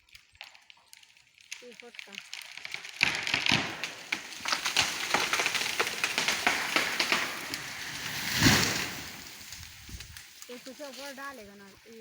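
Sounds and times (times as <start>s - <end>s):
tree leaves and twigs crackling: 0.0s - 12.0s.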